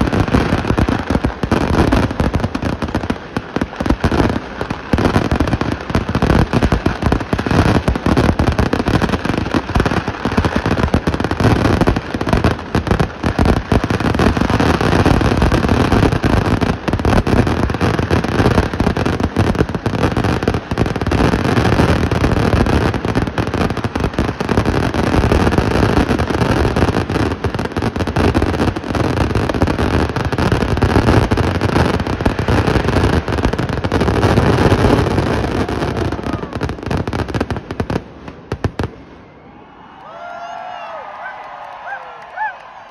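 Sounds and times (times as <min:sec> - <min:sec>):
firecracker barrage: 0:00.0 - 0:42.9.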